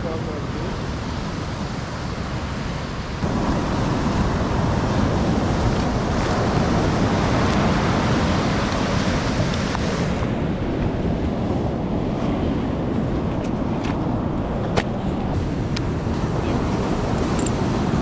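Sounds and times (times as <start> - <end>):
surf washing up beach: 0.0 - 18.0
wind buffeting microphone: 0.0 - 18.0.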